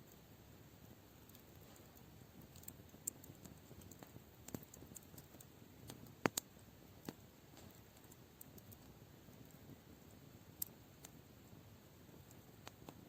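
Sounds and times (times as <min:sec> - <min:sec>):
burning wood popping: 0:00.0 - 0:13.0
low steady fire hiss: 0:00.0 - 0:13.0.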